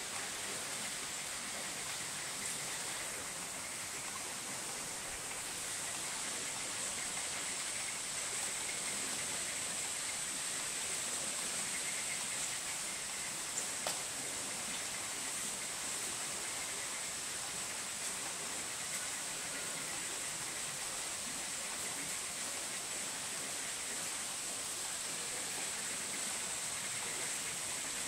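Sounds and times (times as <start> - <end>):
rushing outdoor noise with hiss: 0.0 - 28.0.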